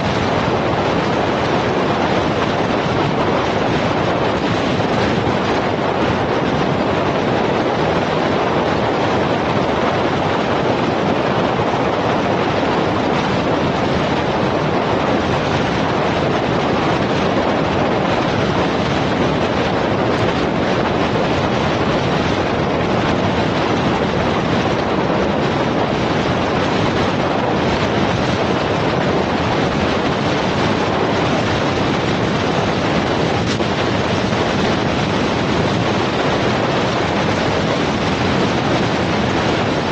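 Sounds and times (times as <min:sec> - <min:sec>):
road noise: 0:00.0 - 0:39.9
wind rushing: 0:00.0 - 0:39.9.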